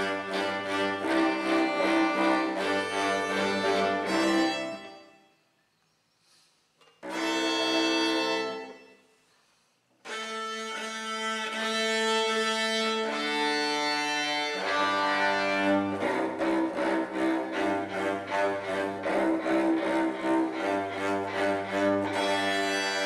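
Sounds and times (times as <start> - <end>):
string quartet bowed chords: 0.0 - 5.2, 7.0 - 8.9, 10.0 - 23.0.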